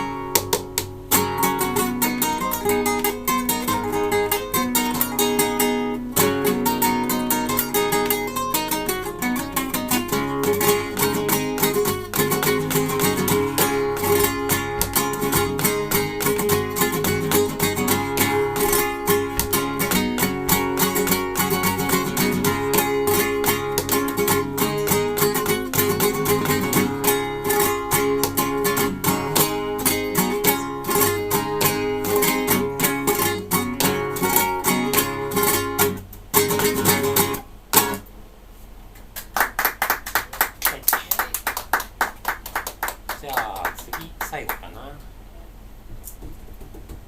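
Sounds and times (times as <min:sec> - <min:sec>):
solo guitar plucked notes: 0:00.0 - 0:38.0.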